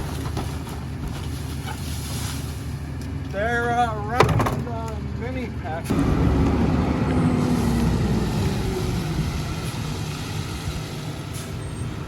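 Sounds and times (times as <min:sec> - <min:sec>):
garbage truck engine rumbling: 0:00.0 - 0:12.0.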